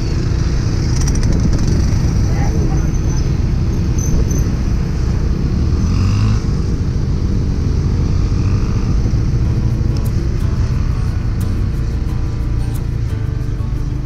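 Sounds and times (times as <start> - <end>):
motorcycles and scooters passing: 0.0 - 14.0
vehicle rumble on road: 0.0 - 14.0.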